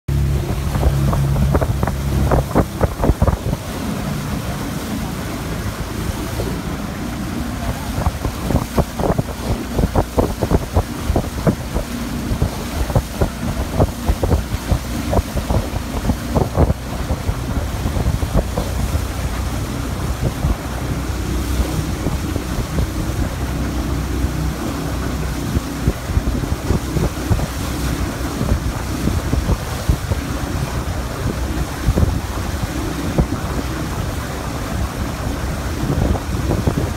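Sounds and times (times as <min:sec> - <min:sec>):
water noise: 0:00.0 - 0:36.9
outboard motor humming: 0:00.1 - 0:36.9
wind buffeting microphone: 0:00.1 - 0:36.9.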